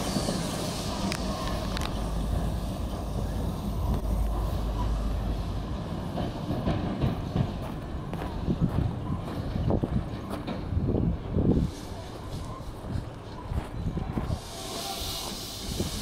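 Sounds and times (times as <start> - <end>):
steam locomotive rumbling: 0.0 - 16.0.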